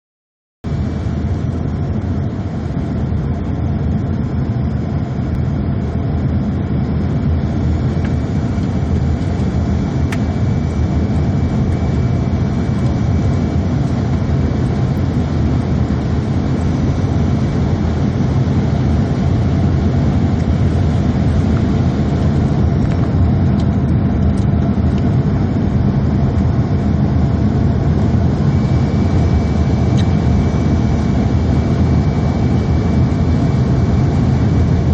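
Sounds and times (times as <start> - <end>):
airliner cabin engine drone: 0.6 - 34.9.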